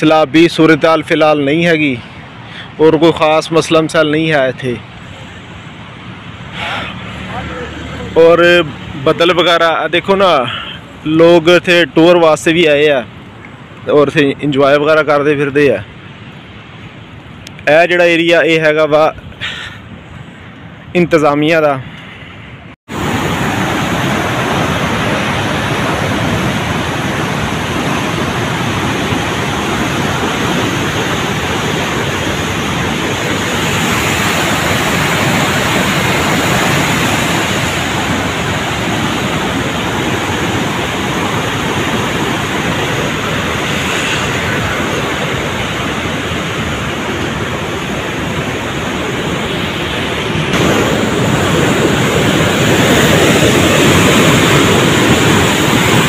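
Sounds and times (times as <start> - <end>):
floodwater rushing: 0.0 - 20.0, 22.9 - 56.0.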